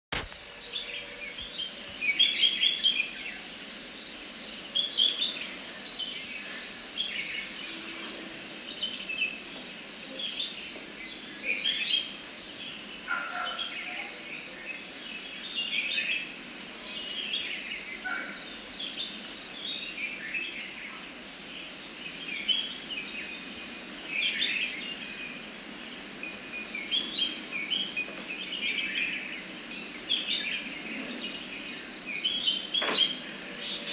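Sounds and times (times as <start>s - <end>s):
background hiss: 0.1s - 33.9s
birds chirping: 0.5s - 33.9s.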